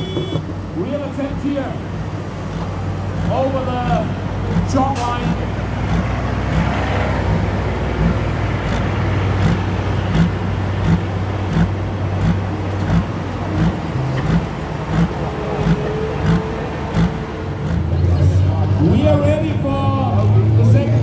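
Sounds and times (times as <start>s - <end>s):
heavy engine running pulsing: 0.0s - 21.0s.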